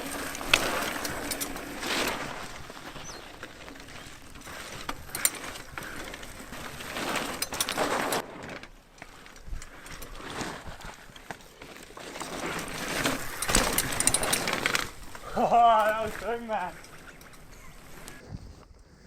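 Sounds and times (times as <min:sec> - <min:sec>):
bike clicks and rattles: 0:00.0 - 0:18.2
bike tyres rolling on dirt: 0:00.0 - 0:19.0.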